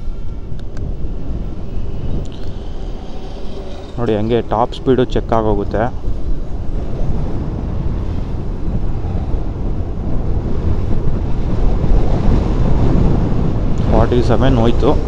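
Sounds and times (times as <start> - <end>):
road rumble: 0.0 - 15.0
wind buffeting microphone: 0.0 - 15.0.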